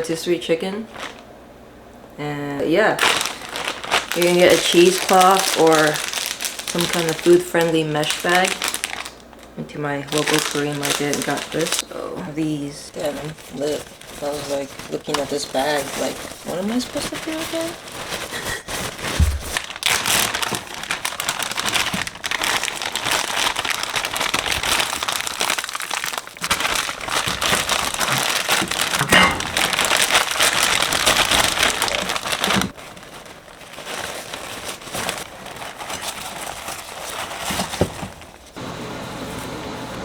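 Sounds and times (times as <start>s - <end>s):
plastic packaging crinkling: 0.9s - 1.3s, 3.0s - 39.9s.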